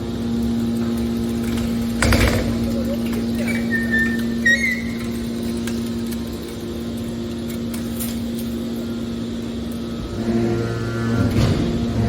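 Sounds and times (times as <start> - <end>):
baler machine humming: 0.0 - 12.0
deep drone: 0.0 - 12.0.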